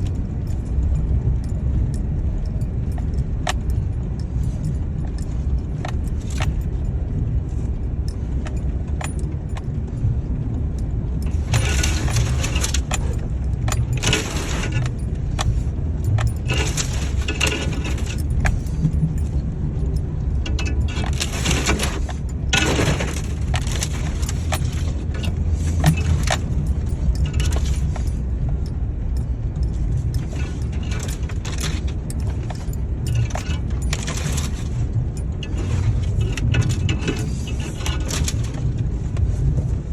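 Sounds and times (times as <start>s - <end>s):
metallic jingling and rattling: 0.0s - 39.8s
vehicle cabin rumble: 0.0s - 39.9s.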